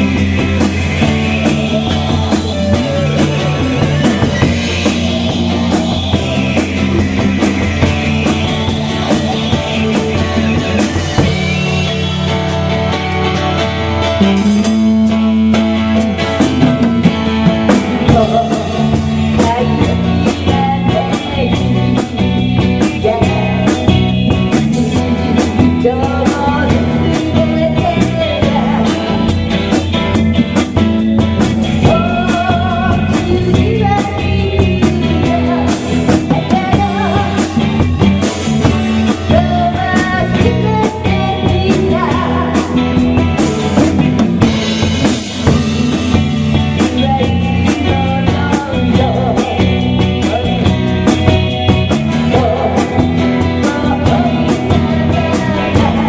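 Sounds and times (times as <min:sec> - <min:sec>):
bass and electric guitar: 0:00.0 - 0:56.0
drum kit beat: 0:00.0 - 0:56.0.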